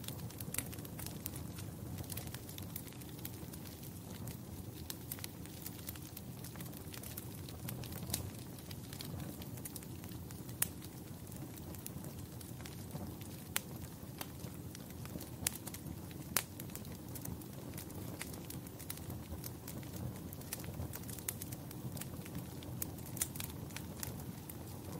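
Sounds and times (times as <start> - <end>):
fire pops and snaps: 0.0 - 24.9
wood fire crackling: 0.0 - 24.9.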